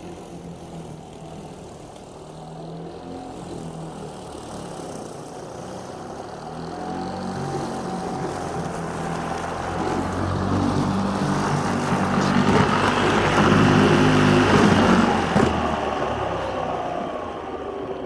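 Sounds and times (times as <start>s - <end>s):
electric mower motor whining: 0.0s - 18.0s.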